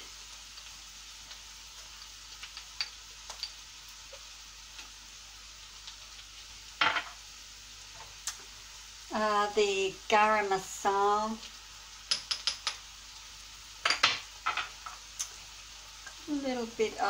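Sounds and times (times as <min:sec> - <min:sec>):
onions sizzling in butter: 0:00.0 - 0:17.0
utensil in frying pan: 0:00.0 - 0:17.0.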